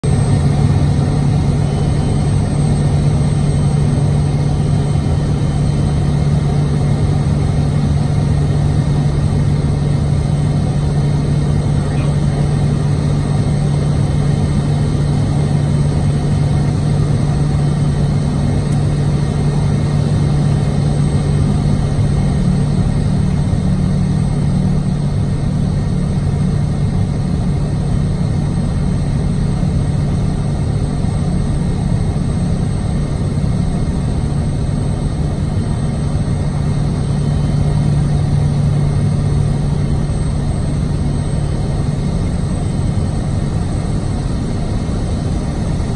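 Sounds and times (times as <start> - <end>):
turboprop engine droning: 0.0 - 45.9.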